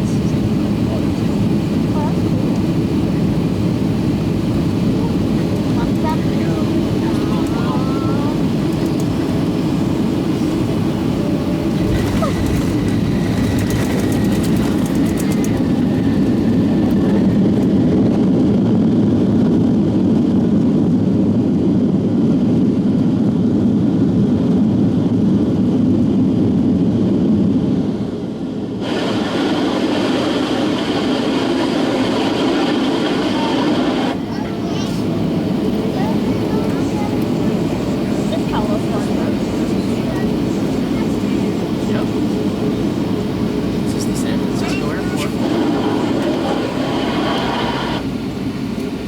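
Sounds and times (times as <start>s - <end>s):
jet engine roar in cabin: 0.0s - 49.0s.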